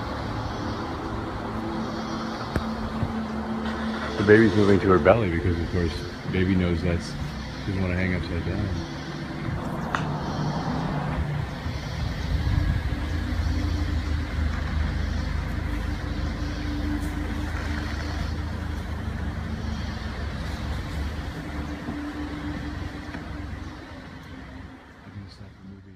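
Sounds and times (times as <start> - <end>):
vehicle engine idling: 0.0 - 25.9.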